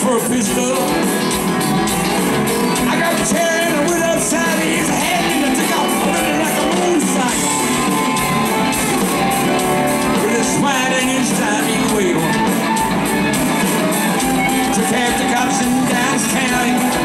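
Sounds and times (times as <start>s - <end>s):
live country rock band: 0.0s - 17.0s.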